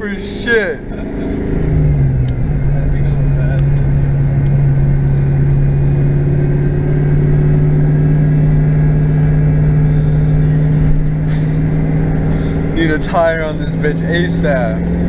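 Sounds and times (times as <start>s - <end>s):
car engine droning: 0.0s - 15.0s
road rumble: 0.0s - 15.0s.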